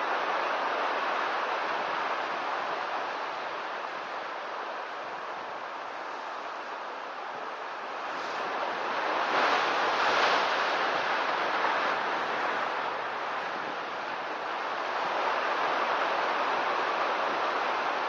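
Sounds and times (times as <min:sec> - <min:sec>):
ocean surf crashing on rocks: 0:00.0 - 0:18.0.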